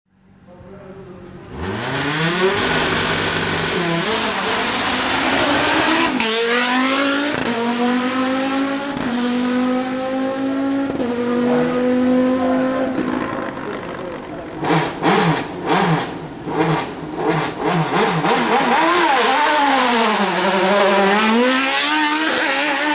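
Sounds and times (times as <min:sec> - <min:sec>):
race car engine revving: 0:00.9 - 0:22.9.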